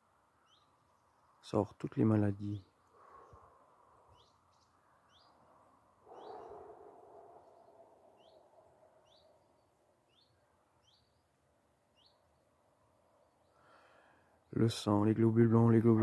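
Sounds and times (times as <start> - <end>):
bird chirping: 0.4 - 1.6, 2.3 - 14.8.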